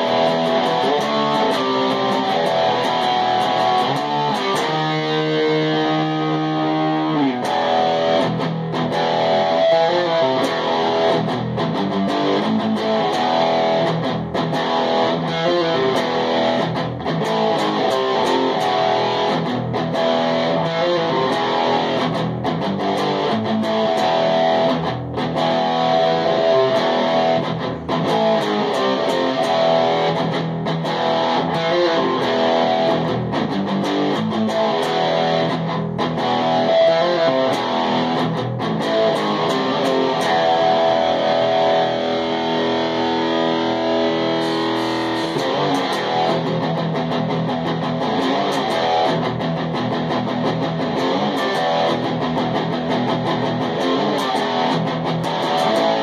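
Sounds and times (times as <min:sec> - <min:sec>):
electric guitar playing: 0:00.0 - 0:56.0.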